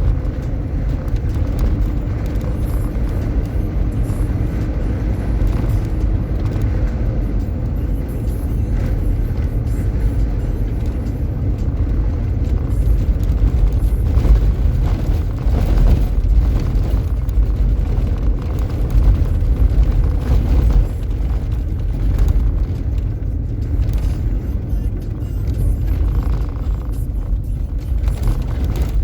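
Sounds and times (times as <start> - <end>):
vehicle driving rumble: 0.0 - 29.0.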